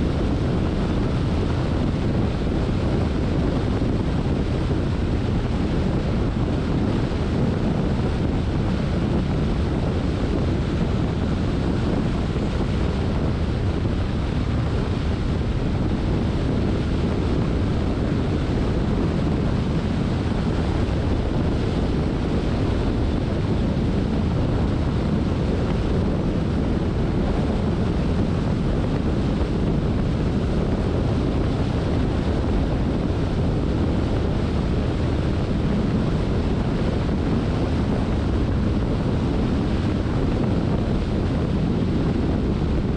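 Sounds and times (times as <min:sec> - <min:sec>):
car road rumble: 0:00.0 - 0:42.9.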